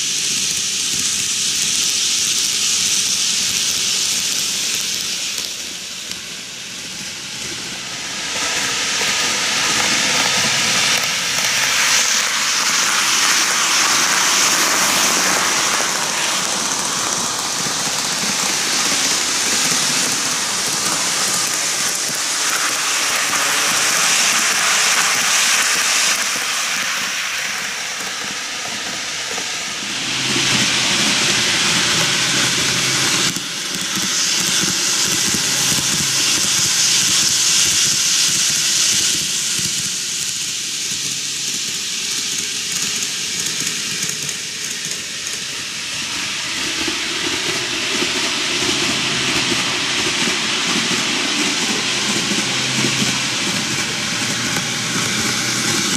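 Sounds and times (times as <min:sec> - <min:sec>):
model trains rattling on track: 0:00.0 - 0:55.9.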